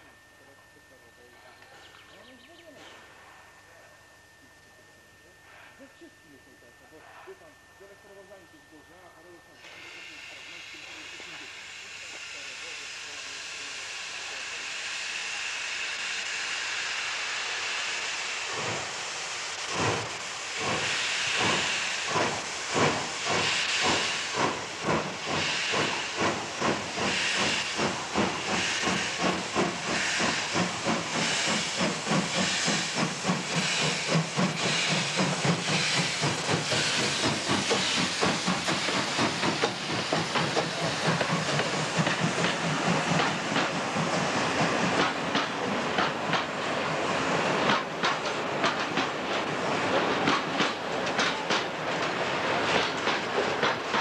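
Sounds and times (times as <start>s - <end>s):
steam locomotive exhaust chuffs: 0.0s - 54.0s
steam hissing: 2.6s - 54.0s.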